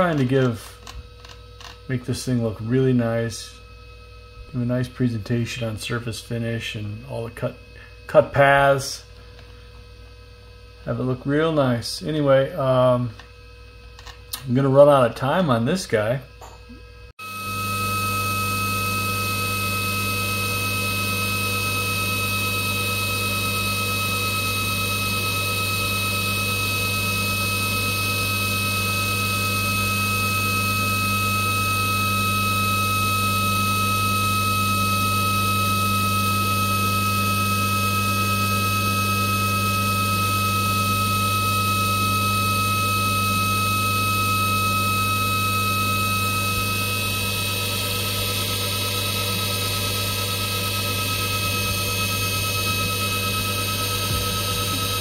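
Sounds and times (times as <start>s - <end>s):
milling machine spindle whine: 0.0s - 16.6s, 17.2s - 55.0s.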